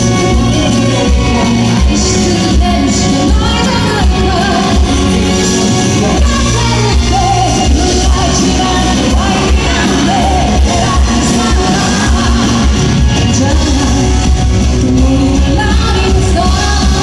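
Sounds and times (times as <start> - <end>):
live rock band: 0.0 - 17.0
woman singing with vibrato: 0.0 - 17.0.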